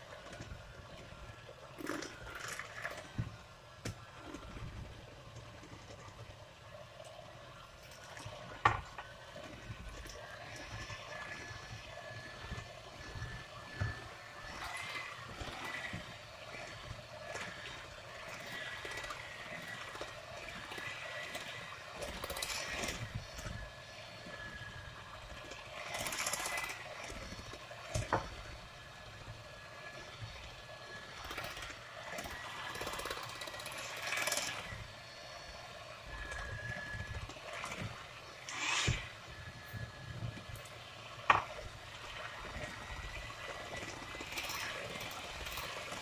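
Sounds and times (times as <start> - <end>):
electric hand mixer whine: 0.0 - 46.0.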